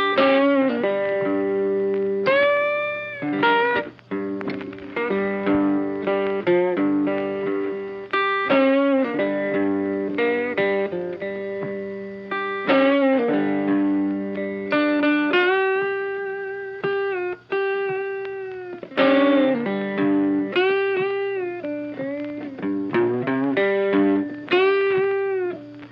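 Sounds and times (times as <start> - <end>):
slow electric guitar melody: 0.0 - 25.9.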